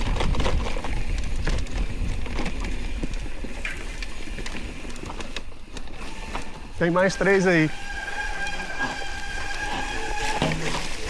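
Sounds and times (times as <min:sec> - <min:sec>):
bike rattling and knocking: 0:00.0 - 0:11.0
bike tyres rumbling on dirt: 0:00.0 - 0:11.0.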